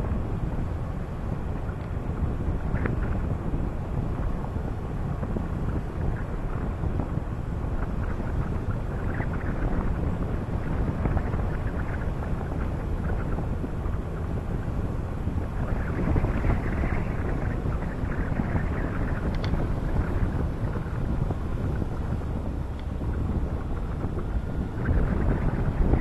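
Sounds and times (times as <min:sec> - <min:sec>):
road noise: 0:00.0 - 0:26.0
wind buffeting microphone: 0:00.0 - 0:26.0.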